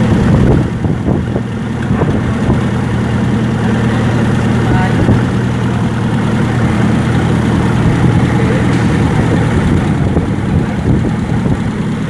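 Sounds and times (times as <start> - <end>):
gasoline engine idling: 0.0 - 12.0.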